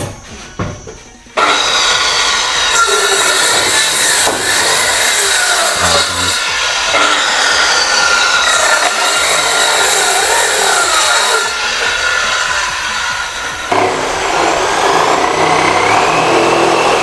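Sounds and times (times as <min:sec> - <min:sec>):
circular saw cutting wood: 0:01.4 - 0:17.0.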